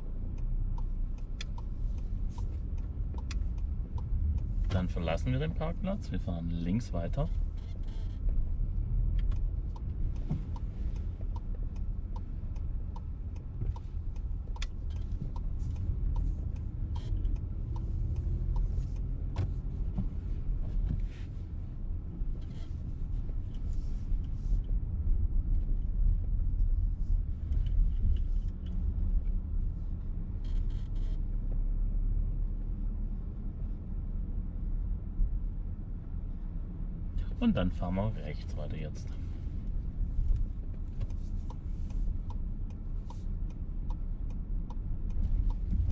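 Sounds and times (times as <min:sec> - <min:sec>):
turn indicator ticking: 0:00.0 - 0:33.8, 0:34.9 - 0:45.9
engine and road rumble: 0:00.0 - 0:45.9.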